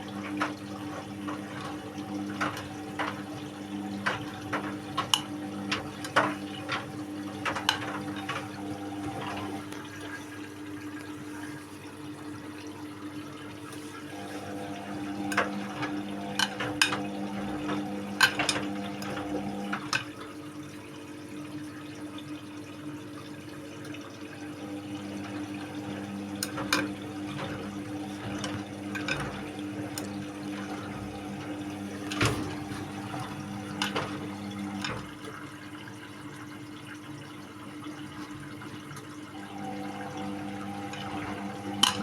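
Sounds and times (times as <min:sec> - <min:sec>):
washing machine hum: 0:00.0 - 0:42.0
water sloshing in washing machine drum: 0:00.0 - 0:42.0.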